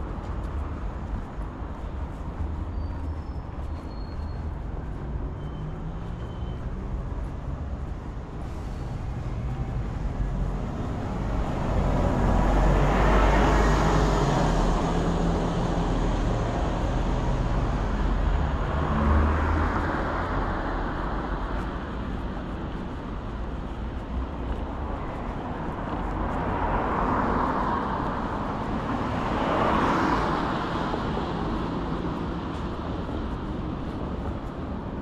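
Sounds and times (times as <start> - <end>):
vehicles driving past: 0.0 - 35.0.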